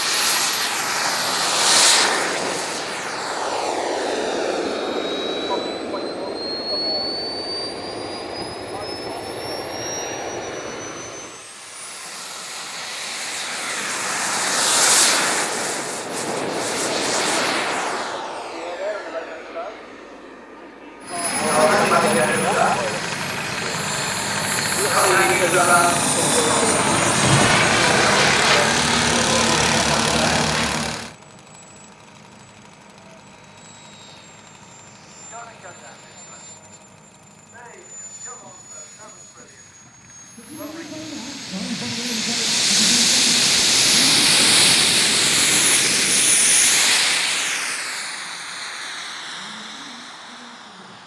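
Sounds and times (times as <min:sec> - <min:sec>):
faint high whine: 0:00.0 - 0:51.0
model jet turbine engine: 0:00.0 - 0:51.0.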